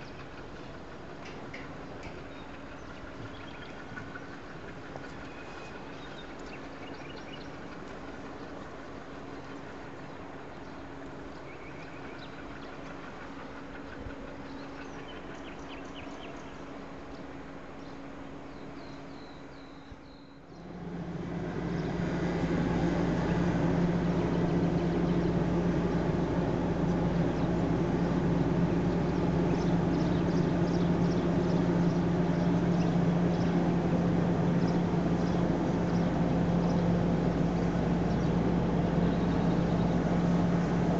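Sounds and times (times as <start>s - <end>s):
diesel locomotive idling close by: 0.0s - 40.9s
distant diesel locomotive hum: 0.0s - 40.9s.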